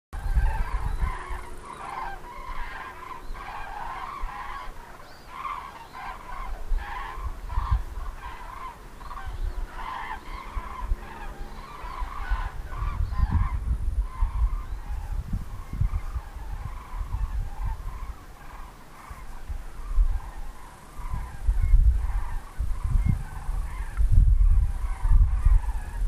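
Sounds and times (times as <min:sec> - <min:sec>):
cranes trumpeting calls: 0:00.2 - 0:26.0.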